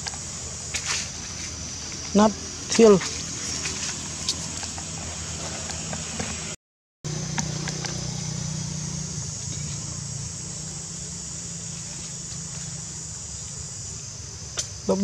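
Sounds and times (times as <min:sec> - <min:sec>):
high insect buzz: 0:00.0 - 0:15.0
low drone: 0:00.0 - 0:15.0.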